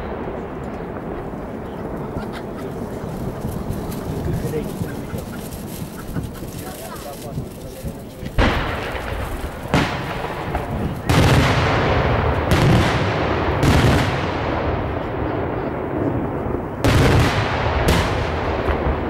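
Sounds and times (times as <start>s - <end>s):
firework shells bursting: 0.0s - 19.0s
rumbling crackle of fireworks: 0.0s - 19.0s.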